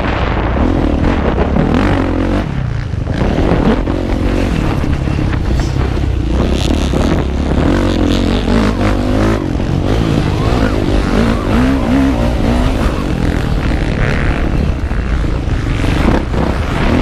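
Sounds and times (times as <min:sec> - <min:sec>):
motocross motorcycle engine revving: 0:00.0 - 0:17.0.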